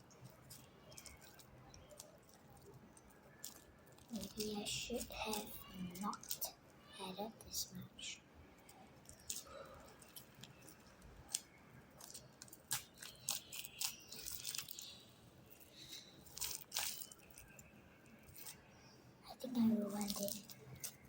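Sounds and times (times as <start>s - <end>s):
slime crackling squelches: 0.0s - 21.0s.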